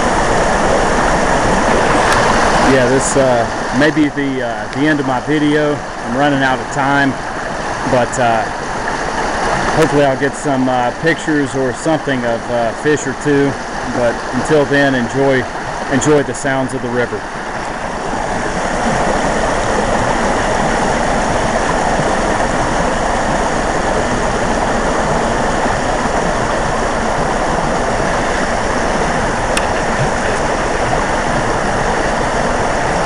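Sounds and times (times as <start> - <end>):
river rushing over rocks: 0.0 - 33.0.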